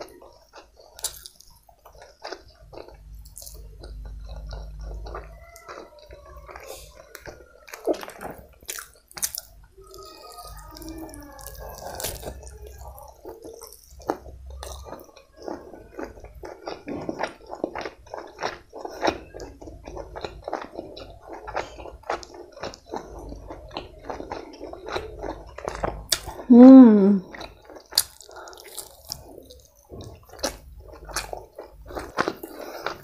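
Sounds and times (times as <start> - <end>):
wet chewing and lip smacks: 0.0 - 26.4, 27.3 - 33.0.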